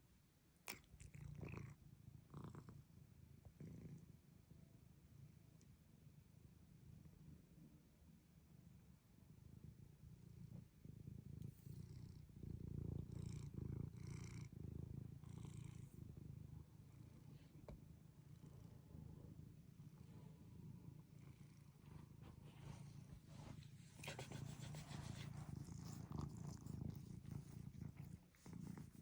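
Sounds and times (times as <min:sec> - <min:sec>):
soft hiss-like noises: 0:00.0 - 0:29.0
cat purring: 0:00.6 - 0:29.0.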